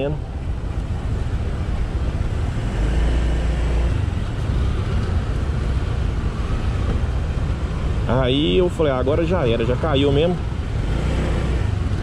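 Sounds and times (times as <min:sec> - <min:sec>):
idling engines in traffic: 0:00.0 - 0:12.0.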